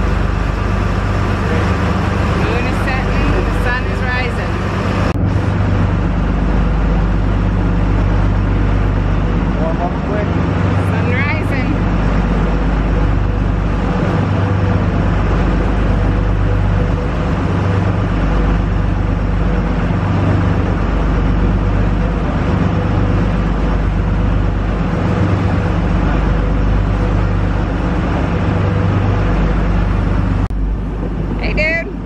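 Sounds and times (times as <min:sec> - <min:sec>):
boat engine drone: 0:00.0 - 0:32.0
rushing wind and water: 0:00.0 - 0:32.0.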